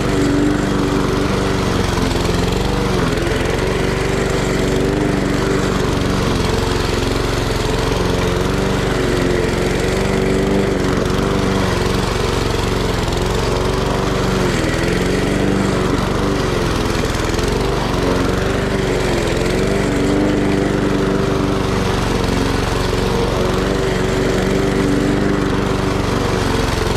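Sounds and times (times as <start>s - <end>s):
lawn mower engine running: 0.0s - 26.9s.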